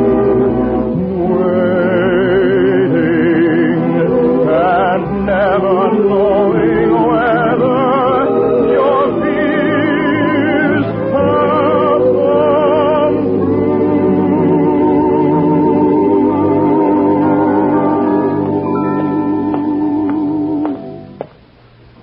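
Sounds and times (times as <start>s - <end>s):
orchestral music on old broadcast: 0.0s - 22.0s.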